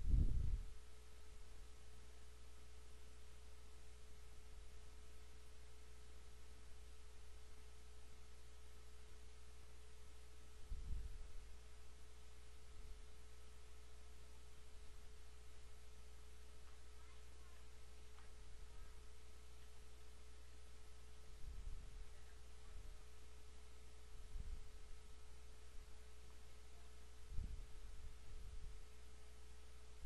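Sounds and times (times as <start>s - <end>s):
faint constant tone: 0.0s - 30.0s
low electrical hum and hiss: 0.0s - 30.0s.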